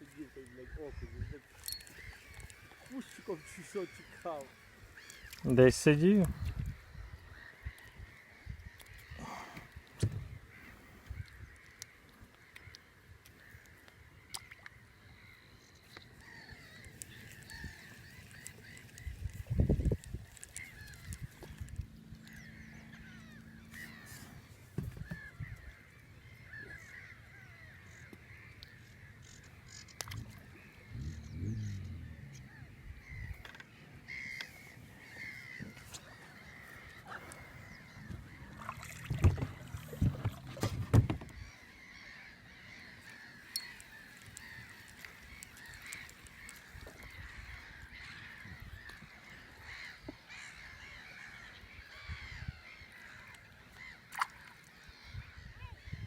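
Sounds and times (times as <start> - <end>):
chorus of small animal calls: 0.0 - 9.9, 16.0 - 56.0.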